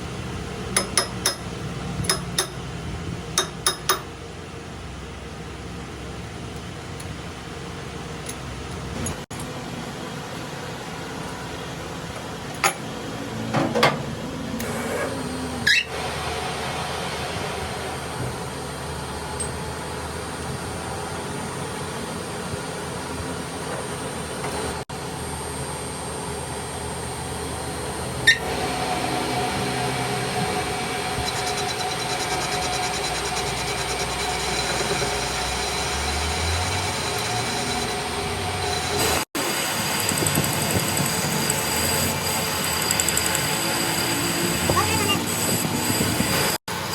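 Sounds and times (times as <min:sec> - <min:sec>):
machine running steadily: 0:00.0 - 0:46.9.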